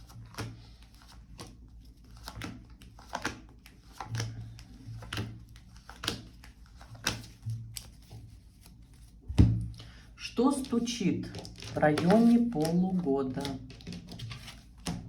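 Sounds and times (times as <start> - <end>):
cards clicking and tapping: 0.0 - 8.2, 10.6 - 15.0.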